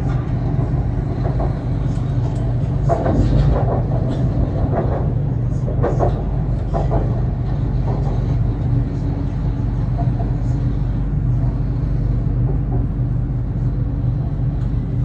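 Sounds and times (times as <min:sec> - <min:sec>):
train interior rumble and hum: 0:00.0 - 0:15.0.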